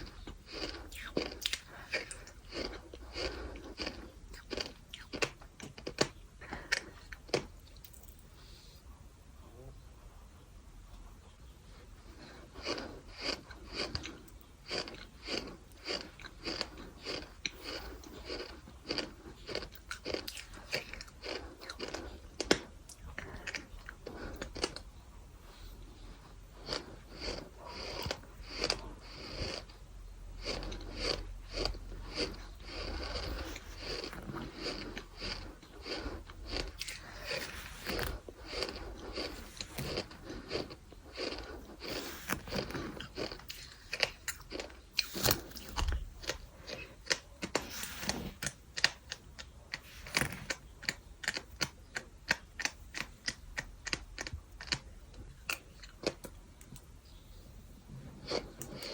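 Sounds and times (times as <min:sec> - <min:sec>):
gritty crunching of sand being chewed: 0:00.0 - 0:08.7, 0:11.7 - 0:57.2, 0:57.9 - 0:58.9.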